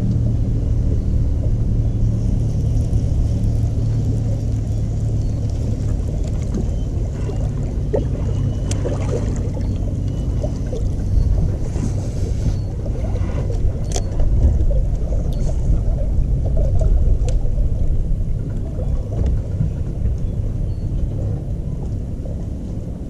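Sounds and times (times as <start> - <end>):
choppy water: 0.0 - 23.0
wind rumble: 0.0 - 23.0.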